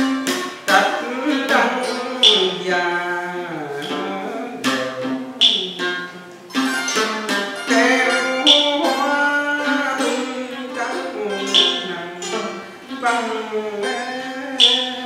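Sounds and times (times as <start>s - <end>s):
plucked board zither: 0.0s - 15.0s
plucked lute: 0.0s - 15.0s.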